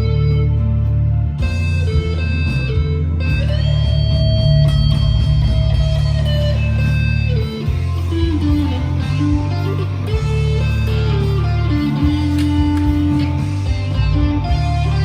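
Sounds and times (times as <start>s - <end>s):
distorted electric guitar notes: 0.0s - 15.0s.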